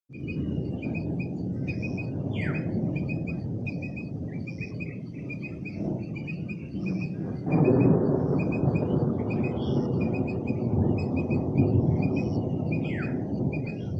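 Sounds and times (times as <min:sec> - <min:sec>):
low rumbling noise: 0:00.1 - 0:13.9
small birds chirping: 0:00.1 - 0:13.9.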